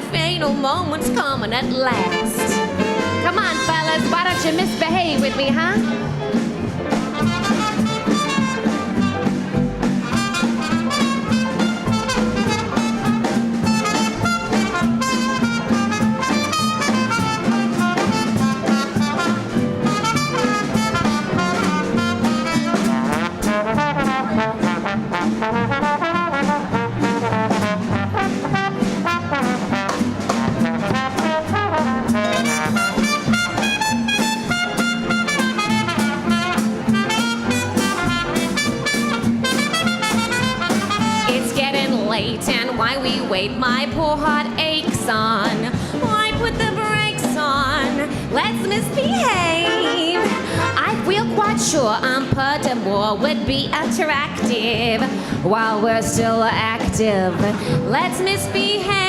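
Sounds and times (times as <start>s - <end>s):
swing dance band playing: 0.0s - 59.0s.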